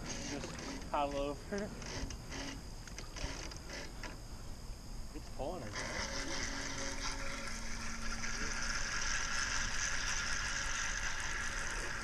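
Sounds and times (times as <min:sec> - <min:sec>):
fishing reel whirring: 0:00.0 - 0:04.0, 0:05.5 - 0:12.0.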